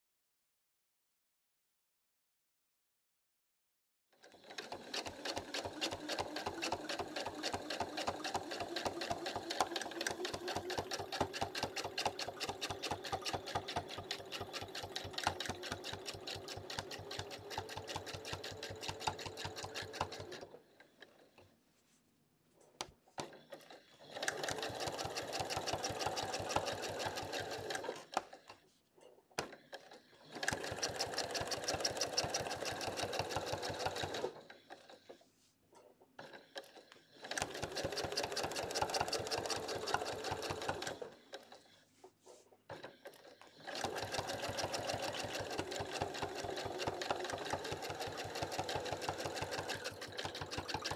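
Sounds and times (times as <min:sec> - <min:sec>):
sewing machine stitching: 0:04.2 - 0:21.5, 0:23.2 - 0:35.2, 0:36.2 - 0:50.9.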